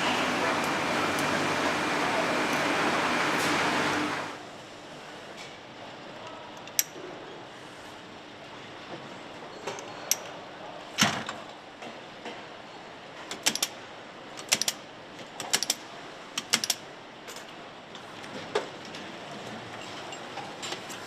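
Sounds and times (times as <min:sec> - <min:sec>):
factory machinery hum: 0:00.0 - 0:19.8.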